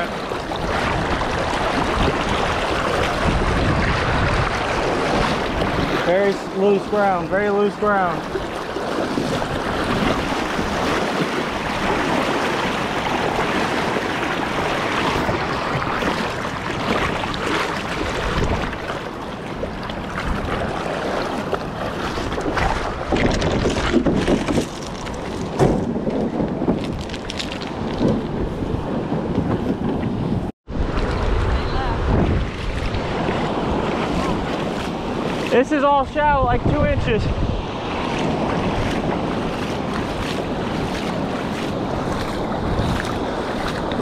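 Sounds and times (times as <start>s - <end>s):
river current rushing: 0.0s - 23.1s, 30.7s - 44.0s
wind buffeting microphone: 0.0s - 44.0s.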